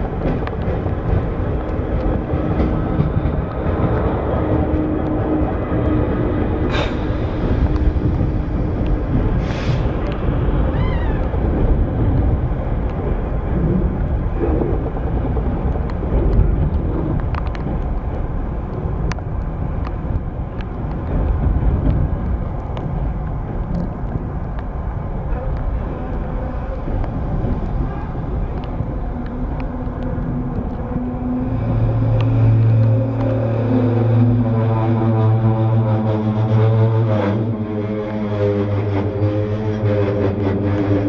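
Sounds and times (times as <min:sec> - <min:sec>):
diesel locomotive engine: 0:00.0 - 0:41.0
freight wagons rumbling past: 0:00.0 - 0:41.0.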